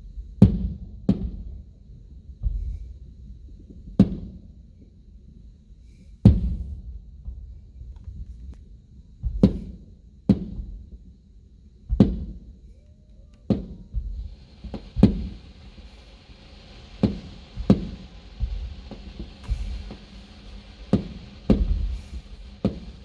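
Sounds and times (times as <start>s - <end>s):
steady hiss: 0.0s - 23.0s
firework shells bursting: 0.2s - 23.0s.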